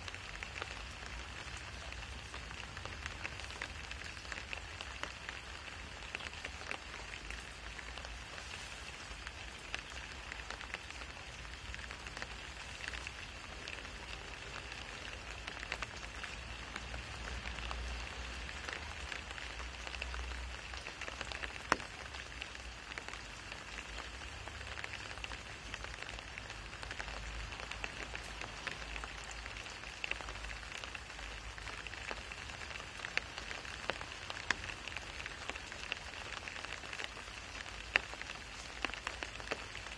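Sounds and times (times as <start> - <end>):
rain on wet asphalt: 0.0 - 39.9.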